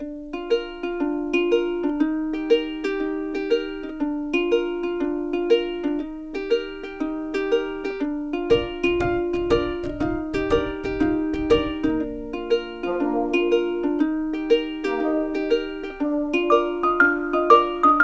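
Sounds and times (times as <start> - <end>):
plucked-string tune with beat: 0.0 - 18.0.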